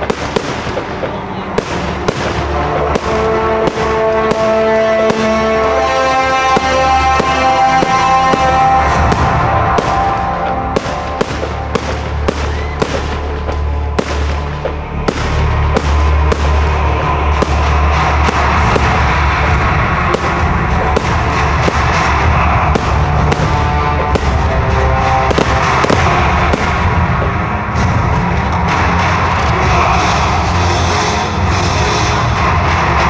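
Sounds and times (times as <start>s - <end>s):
fireworks bangs: 0.0s - 30.0s
music playing: 0.0s - 33.0s.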